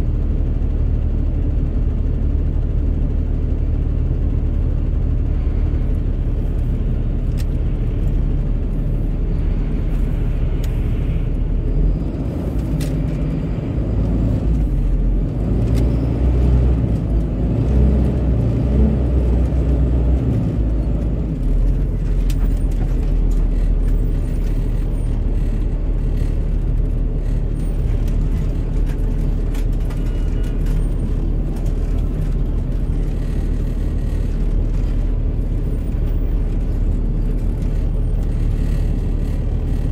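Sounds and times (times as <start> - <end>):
city traffic rumble: 0.0 - 39.9.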